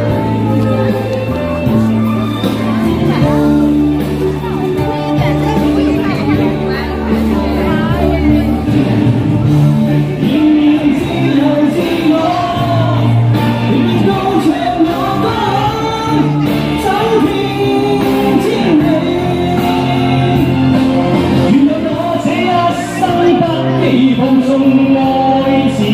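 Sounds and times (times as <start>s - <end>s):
person singing pop song: 0.0s - 25.9s
steady bass notes: 0.0s - 25.9s.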